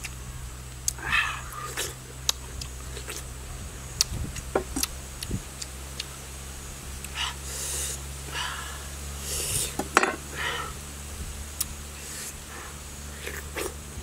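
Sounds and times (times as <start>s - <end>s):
crisp fruit crunching: 0.0s - 14.0s.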